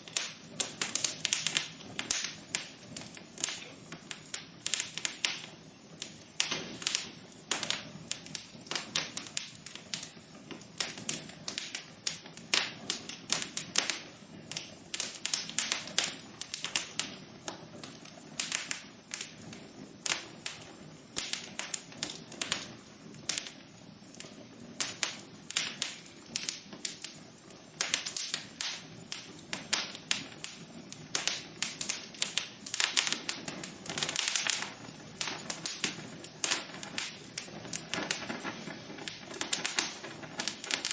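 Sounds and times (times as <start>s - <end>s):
fire crackling in a fireplace: 0.0s - 40.9s.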